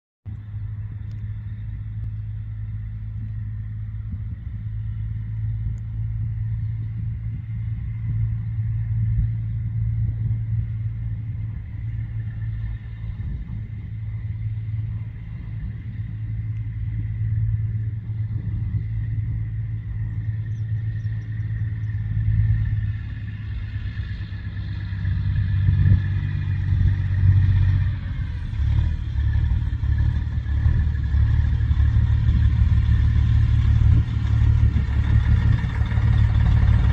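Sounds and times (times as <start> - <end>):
diesel truck engine rumble: 0.3 - 36.9.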